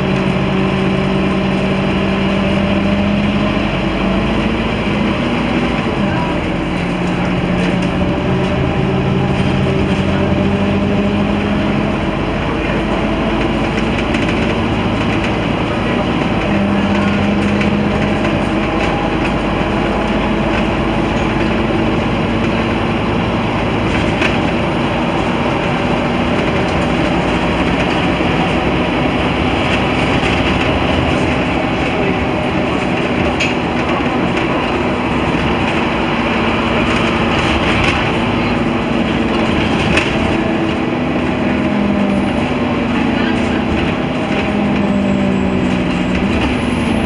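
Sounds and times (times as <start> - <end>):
diesel engine droning: 0.0 - 47.0
road and tyre noise: 0.0 - 47.0.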